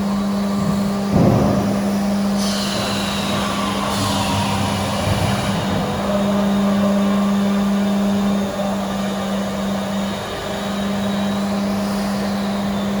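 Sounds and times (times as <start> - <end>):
machine drone: 0.0 - 13.0.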